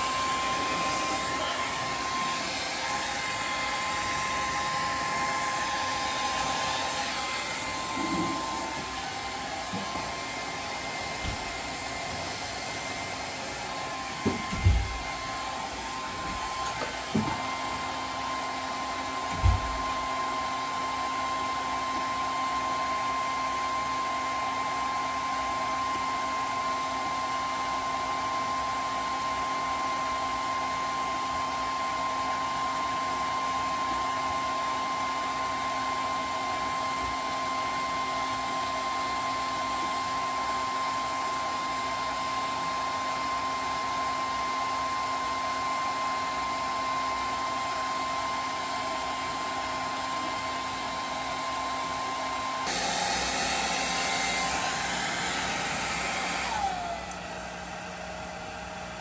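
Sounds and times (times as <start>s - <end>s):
heat gun blowing: 0.0s - 28.1s, 32.4s - 59.0s.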